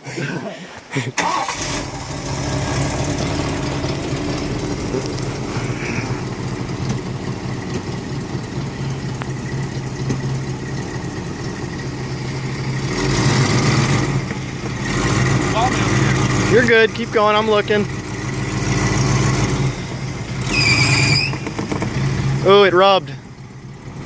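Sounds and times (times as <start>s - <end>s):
engine idling: 1.2s - 24.0s.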